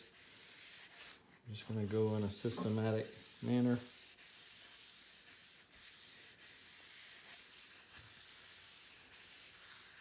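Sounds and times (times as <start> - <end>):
paper towel rubbing wood: 0.0 - 10.0.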